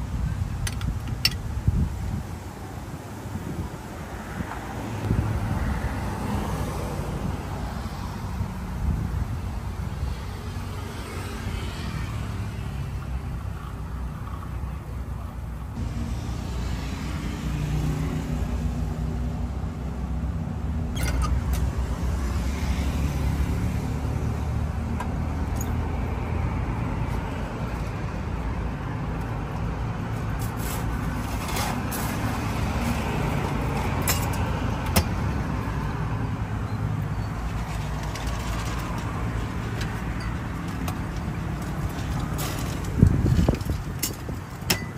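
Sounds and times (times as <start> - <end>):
low rumble of road traffic: 0.0 - 44.9.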